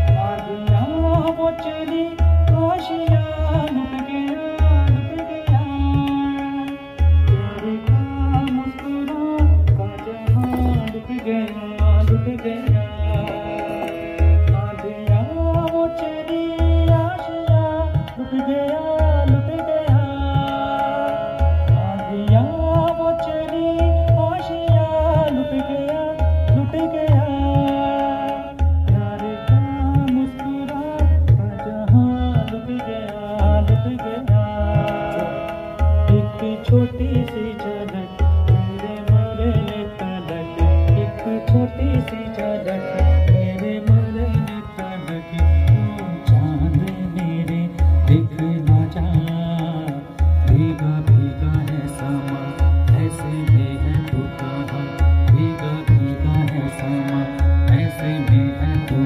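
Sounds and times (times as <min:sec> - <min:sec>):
electronic keyboard: 0:00.0 - 0:59.0
man singing: 0:00.0 - 0:59.0
tabla drum beat: 0:00.0 - 0:59.0.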